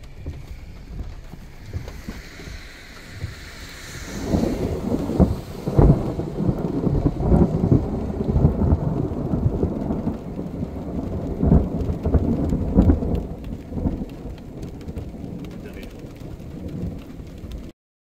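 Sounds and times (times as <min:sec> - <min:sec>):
rain falling: 0:00.0 - 0:17.7
thunder rumbling: 0:00.0 - 0:17.7.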